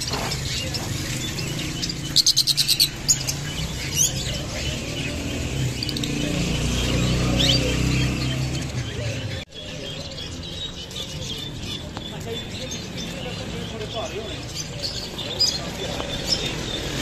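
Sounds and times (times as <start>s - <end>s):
small parrots chirping: 0.0s - 17.0s.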